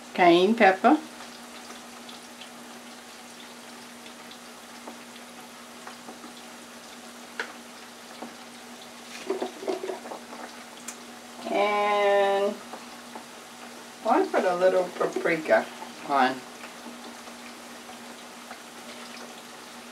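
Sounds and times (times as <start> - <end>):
fries sizzling in deep fryer: 0.0 - 19.9.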